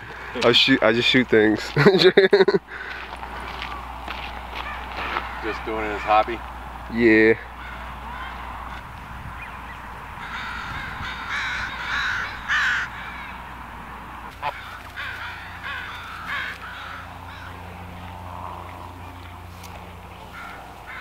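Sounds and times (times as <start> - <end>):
geese honking: 2.9 - 6.4, 7.4 - 21.0.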